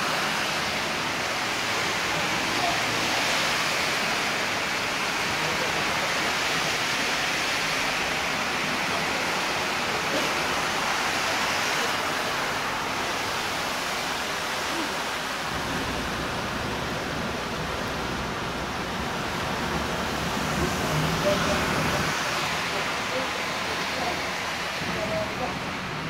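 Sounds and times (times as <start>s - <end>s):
floodwater running across street: 0.0s - 26.0s
heavy rain: 0.0s - 26.0s.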